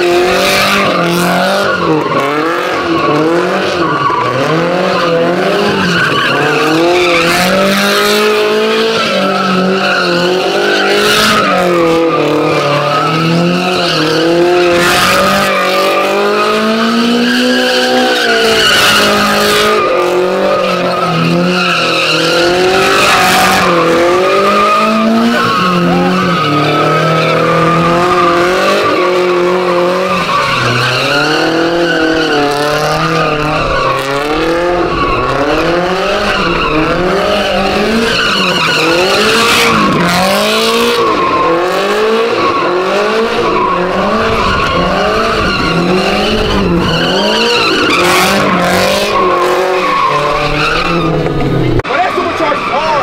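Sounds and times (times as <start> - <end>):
car engine revving: 0.0 - 53.0
tires squealing: 0.0 - 53.0.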